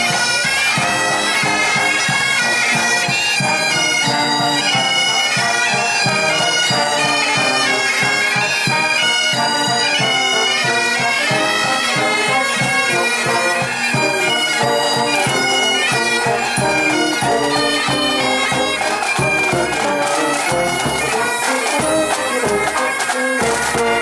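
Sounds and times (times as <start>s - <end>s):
bagpipes playing a tune: 0.0s - 24.0s
drums beating: 0.8s - 24.0s.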